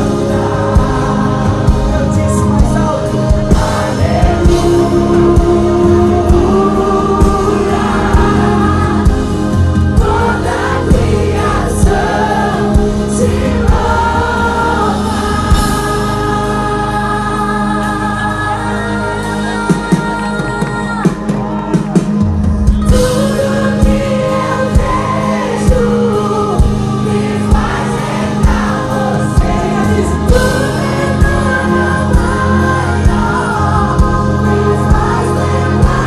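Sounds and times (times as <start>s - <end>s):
voices singing together: 0.0s - 21.0s, 22.8s - 36.0s
gospel band with drum beat: 0.0s - 36.0s.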